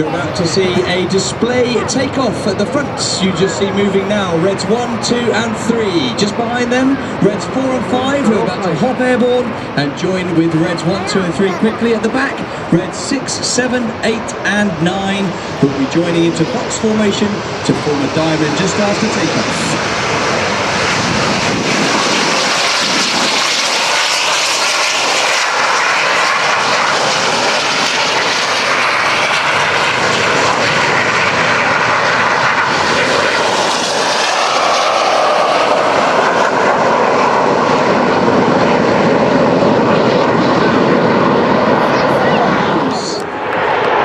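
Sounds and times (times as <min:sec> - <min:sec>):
jet engines taking off: 0:00.0 - 0:44.0.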